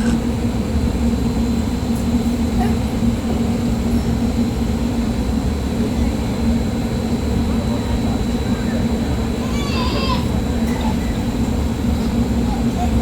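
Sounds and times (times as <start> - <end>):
fans driving strong wind: 0.0 - 13.0.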